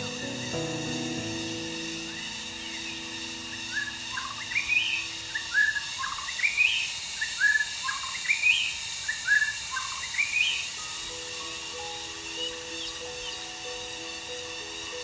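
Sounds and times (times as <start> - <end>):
bird whistling song: 0.0 - 15.0.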